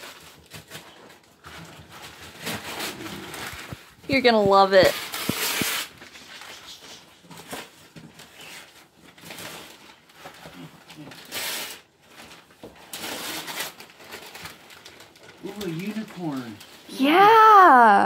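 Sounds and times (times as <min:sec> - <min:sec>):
wrapping paper tearing and crinkling: 0:00.0 - 0:18.0.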